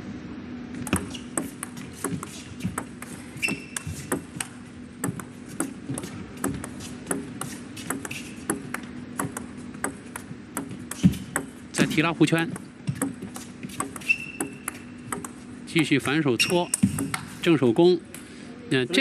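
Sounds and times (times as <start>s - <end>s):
faint steady hum: 0.0s - 19.0s
table tennis ball knocking: 0.8s - 17.4s.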